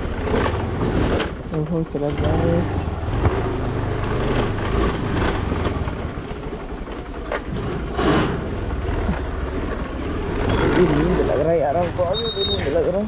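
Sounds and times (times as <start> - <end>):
scooter engine running: 0.0 - 13.0.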